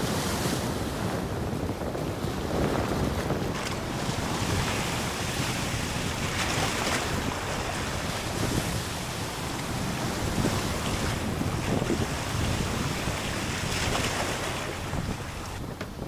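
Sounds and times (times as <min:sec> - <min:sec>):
wind buffeting microphone: 0:00.0 - 0:16.0
sea waves washing: 0:02.2 - 0:15.8.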